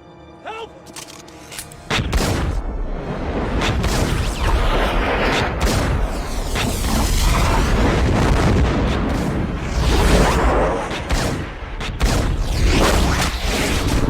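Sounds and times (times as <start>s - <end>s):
action film music: 0.0s - 14.0s
heavy gunfire and booms: 1.9s - 14.0s.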